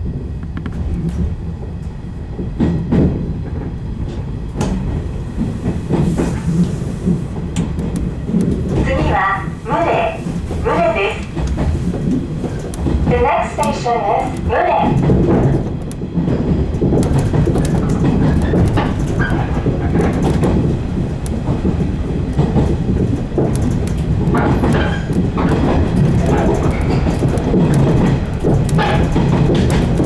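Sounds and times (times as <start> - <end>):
train wheels and motors rumbling: 0.0 - 30.0.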